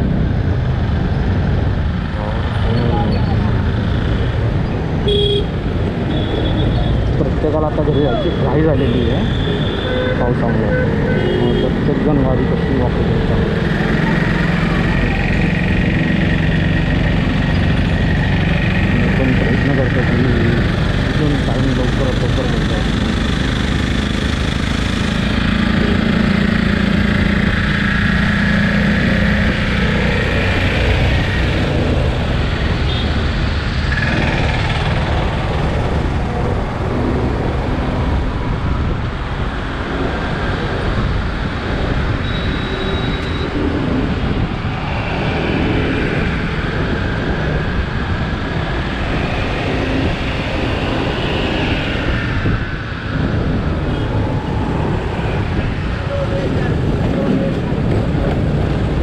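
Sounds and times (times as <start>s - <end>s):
surrounding motorcycle engines: 0.0s - 59.0s
wind and road noise: 0.0s - 59.0s.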